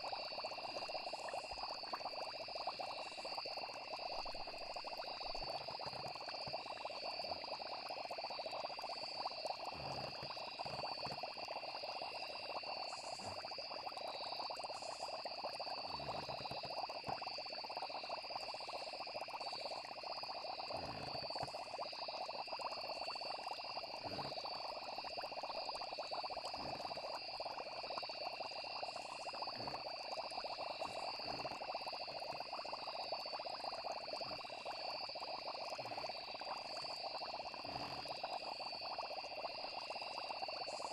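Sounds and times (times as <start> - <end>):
crackling hiss: 0.0 - 40.9
frogs and crickets trilling: 0.0 - 40.9.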